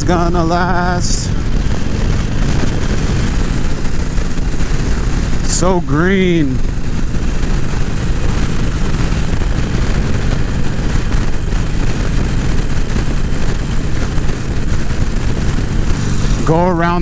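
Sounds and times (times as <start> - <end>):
motorcycle engine: 0.0 - 17.0
road noise: 0.0 - 17.0
wind rushing over microphone: 0.0 - 17.0.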